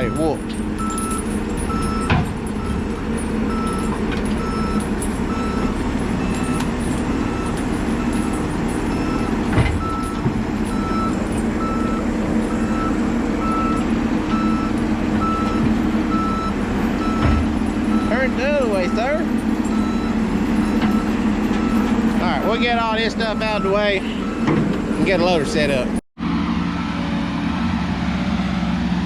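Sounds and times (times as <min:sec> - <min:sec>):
backup alarm beeping: 0:00.0 - 0:25.8
engine running: 0:00.0 - 0:29.0.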